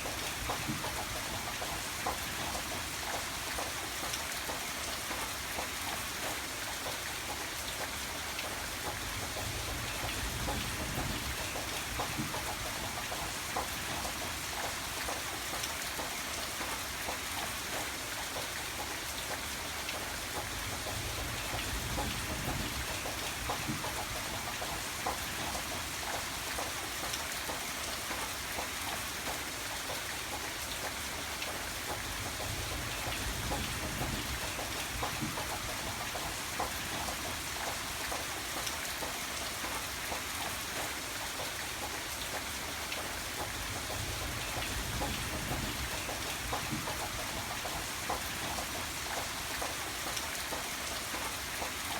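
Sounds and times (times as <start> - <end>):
rain drops ticking on a surface: 0.0 - 51.9
steady rain hiss: 0.0 - 51.9.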